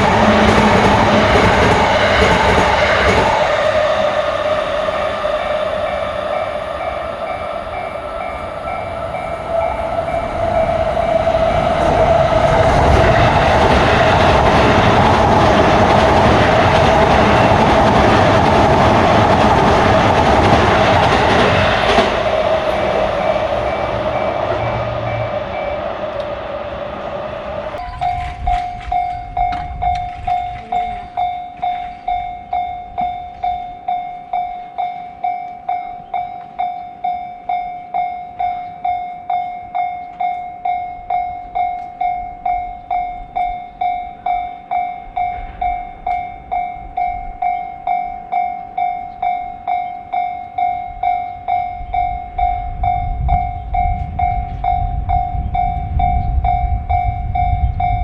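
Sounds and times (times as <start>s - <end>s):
low rumble of approaching train: 0.0s - 58.0s
railroad crossing bell ringing: 0.0s - 58.0s.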